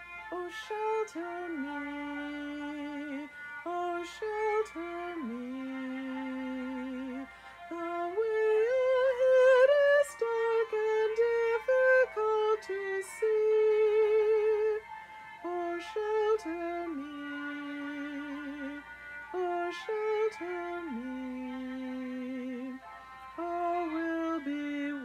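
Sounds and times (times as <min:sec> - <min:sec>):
woman singing a hymn solo: 0:00.3 - 0:14.8, 0:15.4 - 0:22.8, 0:23.4 - 0:25.0.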